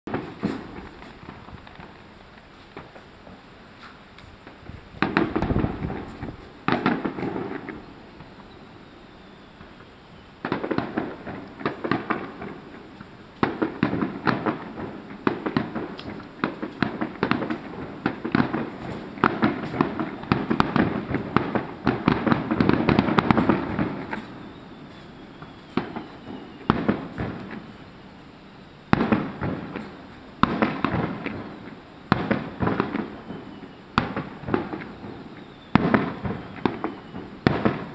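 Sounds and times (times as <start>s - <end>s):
fireworks crackling: 0.1s - 37.9s.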